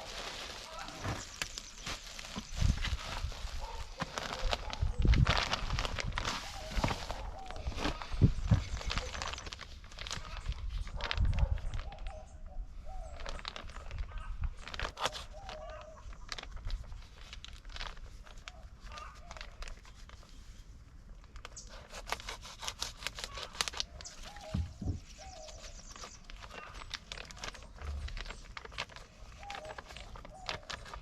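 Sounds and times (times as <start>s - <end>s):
leaves rustling and snapping: 0.0s - 12.2s, 13.0s - 20.4s, 21.2s - 31.0s.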